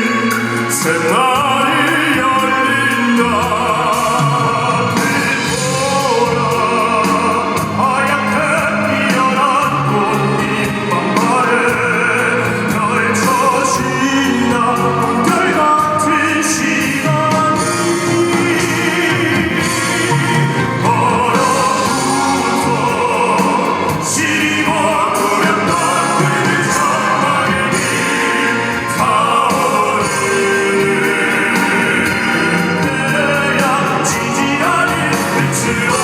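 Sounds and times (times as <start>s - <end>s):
instrumental accompaniment: 0.0s - 36.0s
vocal group singing operatically: 0.0s - 36.0s.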